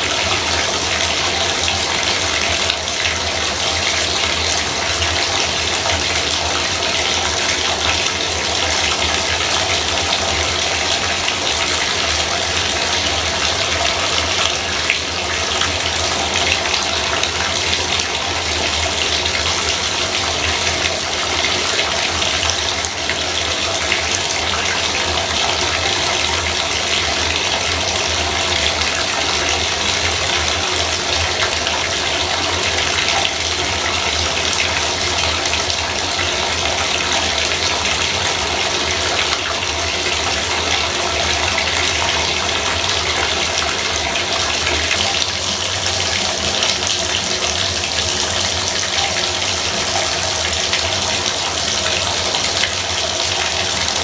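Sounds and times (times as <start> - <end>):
bathtub faucet running: 0.0 - 54.0.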